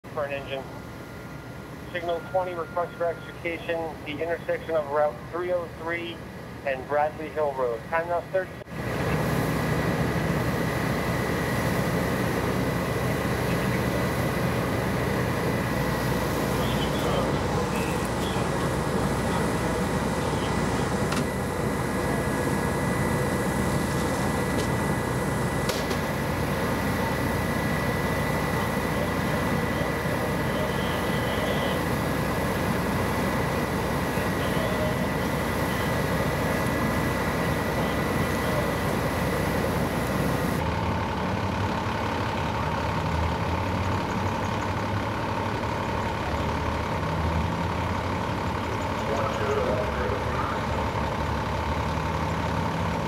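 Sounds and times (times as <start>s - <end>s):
thin steady whine: 0.0s - 40.7s, 48.2s - 51.5s
fire engines idling: 0.0s - 53.0s.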